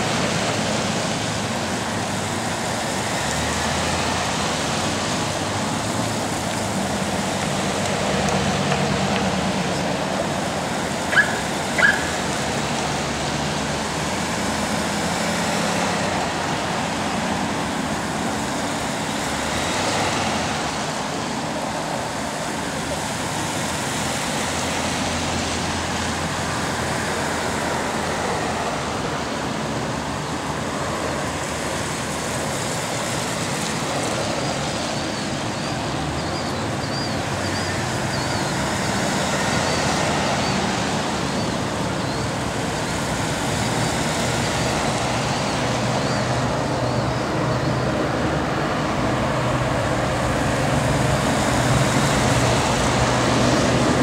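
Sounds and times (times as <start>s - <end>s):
tyre hiss on wet pavement: 0.0s - 54.0s.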